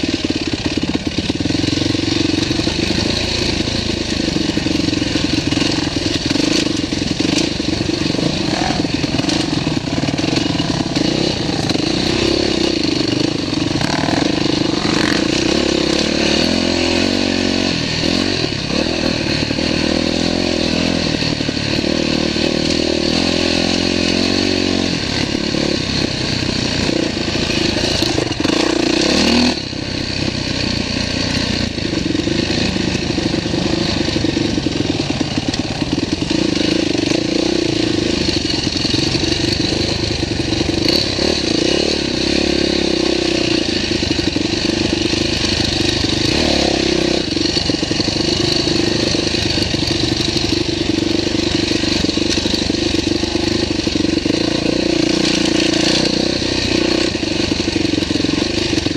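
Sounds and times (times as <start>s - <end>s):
dirt bike engine: 0.0s - 58.9s.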